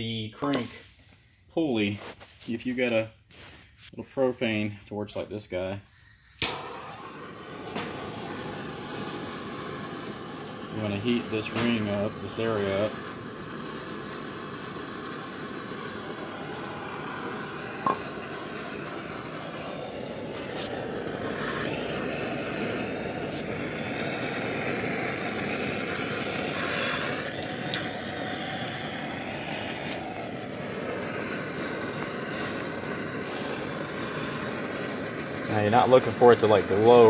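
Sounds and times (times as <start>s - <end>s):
propane torch hissing: 1.0s - 37.0s.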